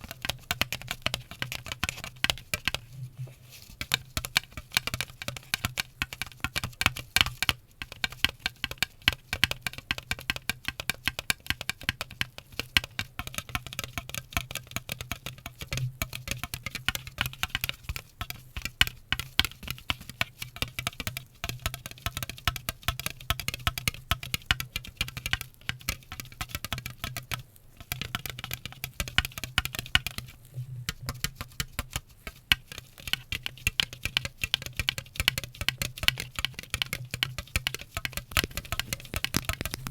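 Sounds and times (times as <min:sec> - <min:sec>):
fast tapping and clicking: 0:00.0 - 0:02.8, 0:03.8 - 0:39.9.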